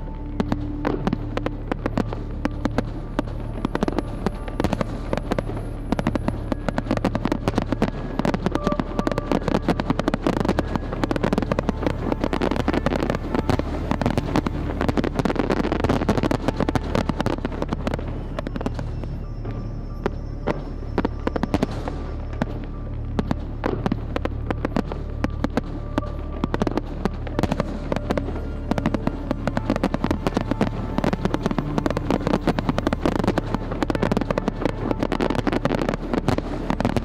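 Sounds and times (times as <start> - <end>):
firework shells bursting and crackling: 0.0 - 37.0.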